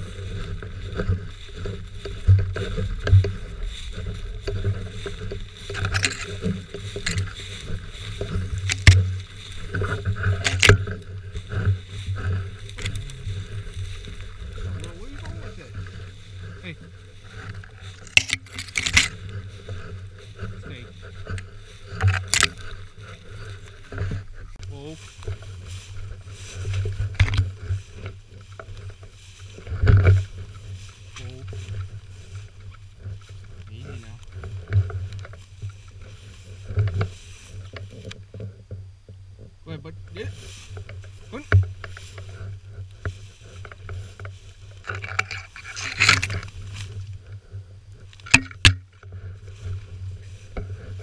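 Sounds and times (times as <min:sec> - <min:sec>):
dry grass swishing against clothing: 0:00.0 - 0:38.1, 0:40.2 - 0:48.3, 0:48.9 - 0:51.0
low rumble on microphone: 0:00.0 - 0:51.0.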